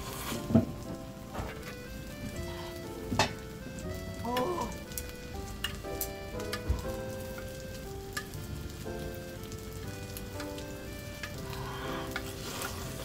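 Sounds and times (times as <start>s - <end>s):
light background music: 0.0s - 13.0s
meat sizzling on a grill: 0.0s - 13.0s.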